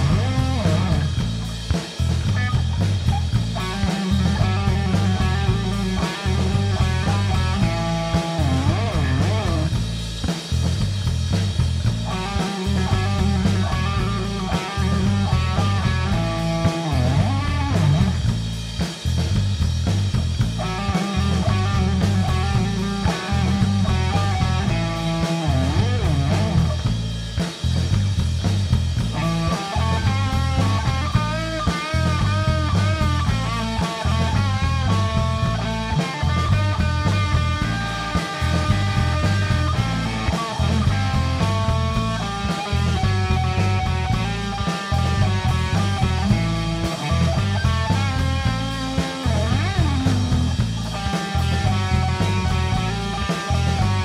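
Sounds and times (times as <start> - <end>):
bass and drums groove: 0.0 - 54.0
electric guitar lead lines: 0.0 - 54.0.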